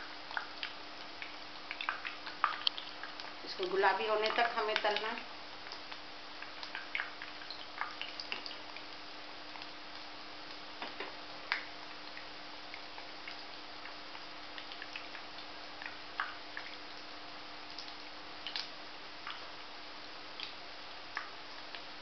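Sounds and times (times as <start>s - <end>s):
deep-frying sizzle: 0.0s - 22.0s
small crackling pops: 0.0s - 22.0s.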